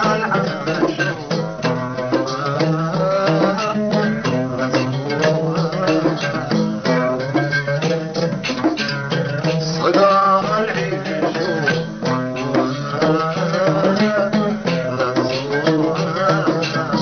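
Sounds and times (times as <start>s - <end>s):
hand drum percussion: 0.0s - 17.0s
person singing: 0.0s - 17.0s
plucked strings: 0.0s - 17.0s.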